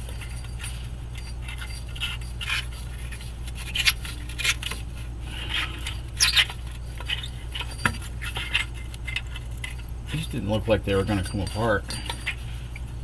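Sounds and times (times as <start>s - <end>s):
hand tools clinking and scraping: 0.0s - 13.0s.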